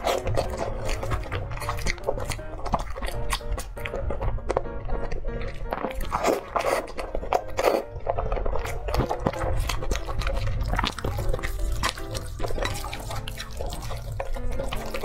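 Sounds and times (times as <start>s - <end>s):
noodles slurped: 0.0s - 3.9s, 4.6s - 15.0s
chewing with wet mouth clicks: 0.0s - 15.0s.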